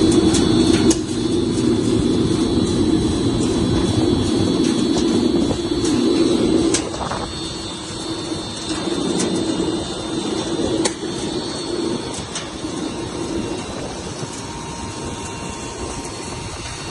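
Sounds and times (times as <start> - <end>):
faint high whine: 0.0 - 16.9
machinery humming: 0.0 - 16.9.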